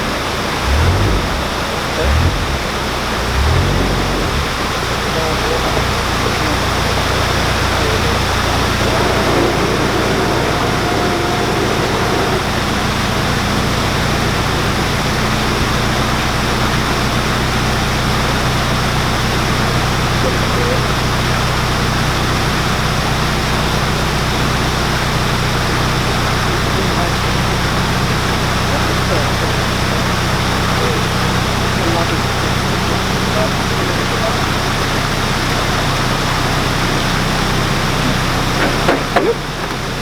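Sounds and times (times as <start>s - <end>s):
boat engine idling: 0.0s - 40.0s.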